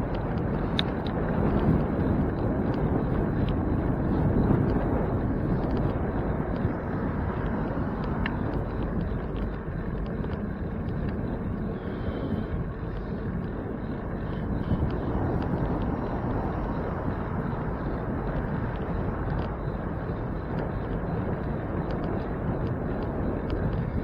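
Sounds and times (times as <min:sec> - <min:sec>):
bicycle road noise: 0:00.0 - 0:24.0
faint ticks: 0:00.0 - 0:24.0
wind on microphone: 0:00.0 - 0:24.0.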